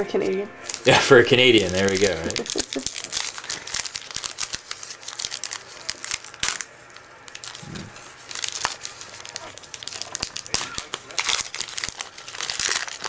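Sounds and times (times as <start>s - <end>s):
wrapper crinkling and tearing: 0.6s - 13.0s.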